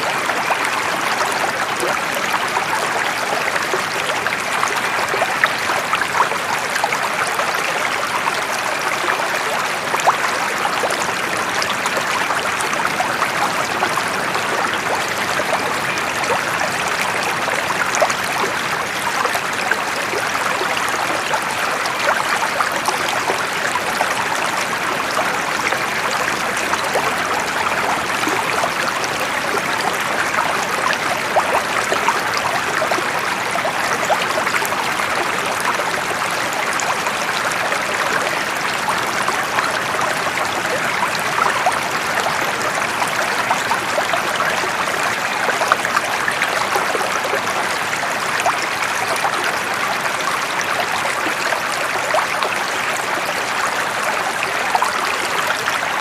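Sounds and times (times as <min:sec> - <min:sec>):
flowing water babbling: 0:00.0 - 0:56.0.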